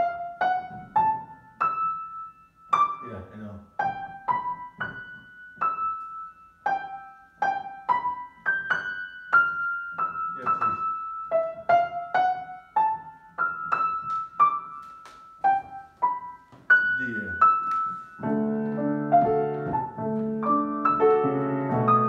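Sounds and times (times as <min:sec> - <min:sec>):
grand piano notes: 0:00.0 - 0:22.0.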